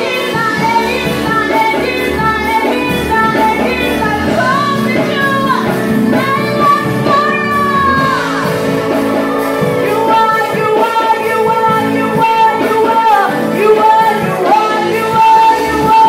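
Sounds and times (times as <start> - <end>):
held instrument chords: 0.0 - 16.0
woman singing gospel song: 0.0 - 16.0.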